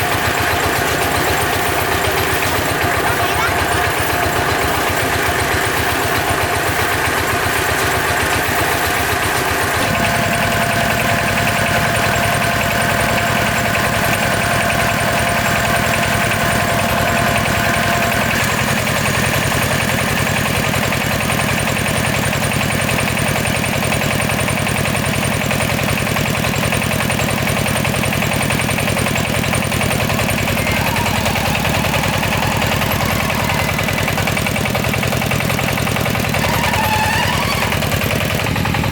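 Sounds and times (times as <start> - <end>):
harvester engine running: 0.0 - 38.9.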